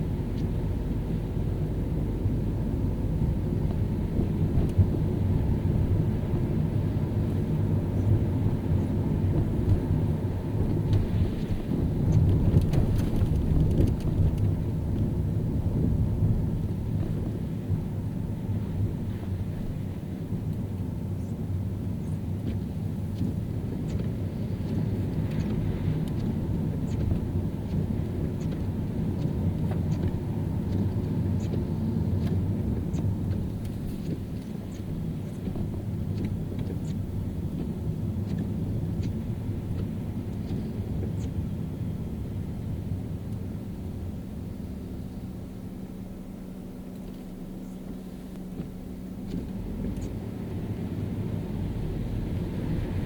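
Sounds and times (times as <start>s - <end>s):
car driving on wet road: 0.0s - 53.0s.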